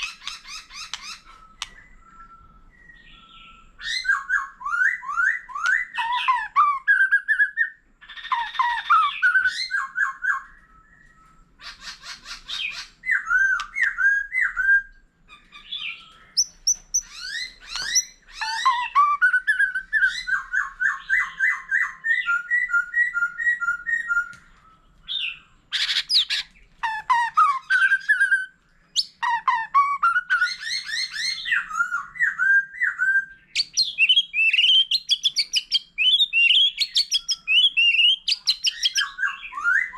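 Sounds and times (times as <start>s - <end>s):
songbird singing whistled notes: 0.0s - 39.9s.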